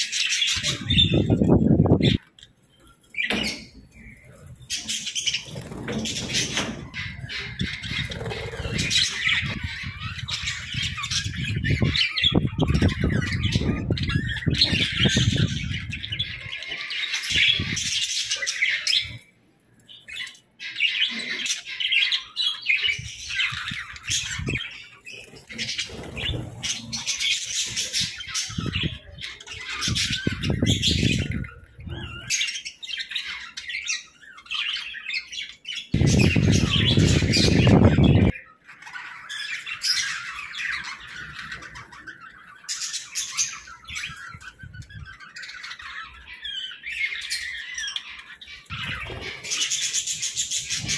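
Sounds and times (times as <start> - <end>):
budgerigars chattering and chirping: 0.0 - 50.9.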